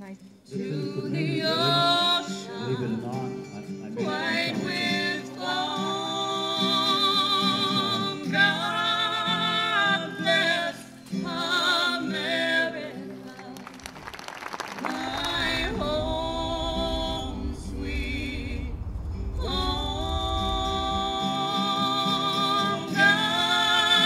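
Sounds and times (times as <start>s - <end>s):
person singing with vibrato: 0.5s - 13.8s, 14.8s - 24.0s.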